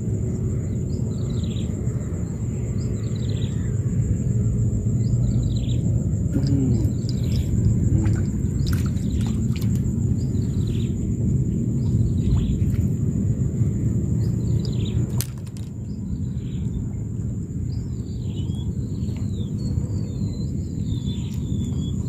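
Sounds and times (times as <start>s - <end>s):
wind rumble on microphone: 0.0s - 22.0s
small birds chirping: 0.5s - 22.0s.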